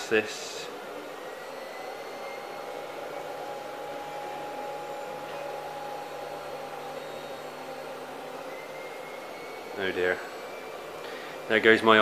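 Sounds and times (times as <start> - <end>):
machine or fan whirring: 0.0 - 12.0.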